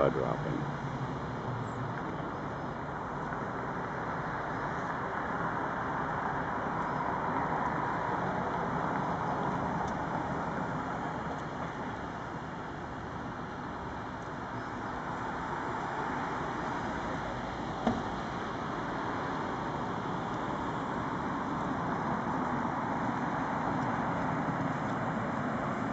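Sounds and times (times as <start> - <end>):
road traffic hum: 0.0 - 25.9.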